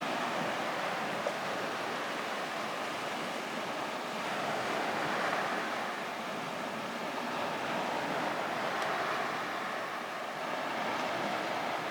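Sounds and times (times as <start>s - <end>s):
waves washing on shore: 0.0s - 11.9s.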